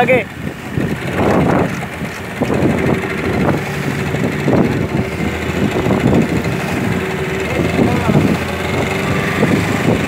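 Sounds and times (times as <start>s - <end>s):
boat engine running: 0.0s - 10.0s
water washing against hull: 0.0s - 10.0s
wind on microphone: 0.0s - 10.0s.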